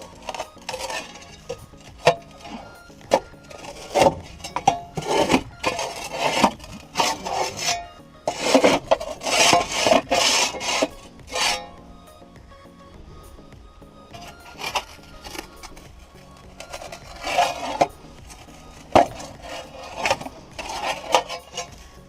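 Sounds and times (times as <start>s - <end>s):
dirt scraping from excavator tracks: 0.0s - 11.7s, 14.1s - 22.0s.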